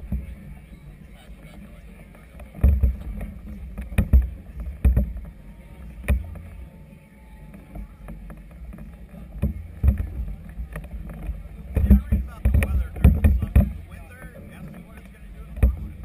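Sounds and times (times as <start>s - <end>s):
choppy water: 0.0s - 16.0s.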